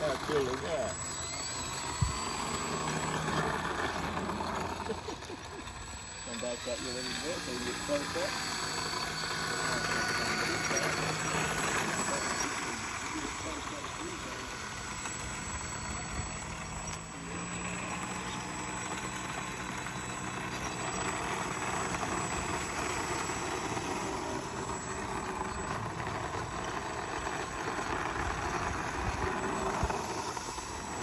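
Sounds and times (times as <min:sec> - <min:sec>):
model airplane motor whirring: 0:00.0 - 0:31.0.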